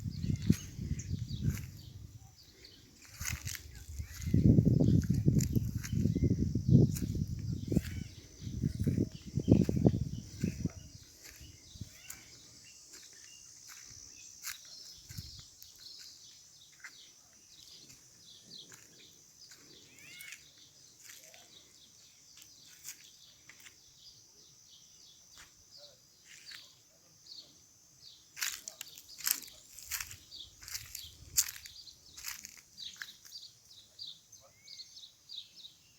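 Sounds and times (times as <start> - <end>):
small birds chirping: 0.0 - 35.9
steady high-pitched hiss: 0.0 - 35.9.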